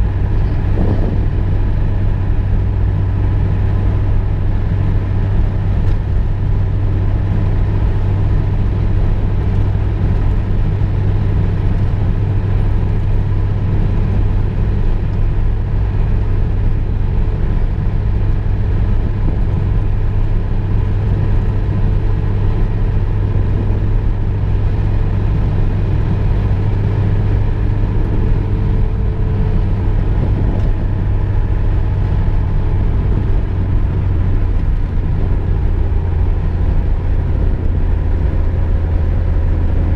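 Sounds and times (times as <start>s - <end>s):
car engine hum: 0.0s - 39.9s
tyre and road rumble: 0.0s - 39.9s.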